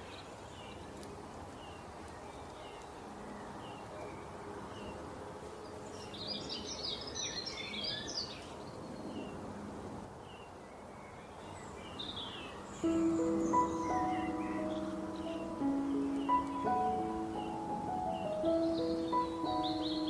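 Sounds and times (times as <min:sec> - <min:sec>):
small birds chirping: 0:00.0 - 0:09.5, 0:10.2 - 0:20.0
background hiss: 0:00.0 - 0:20.0.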